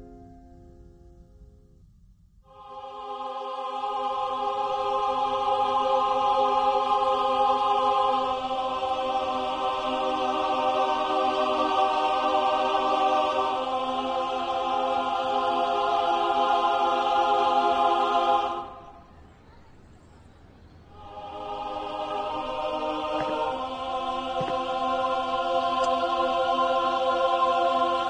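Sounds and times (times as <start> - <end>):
choir-like chords music: 2.4 - 19.3, 20.8 - 28.0.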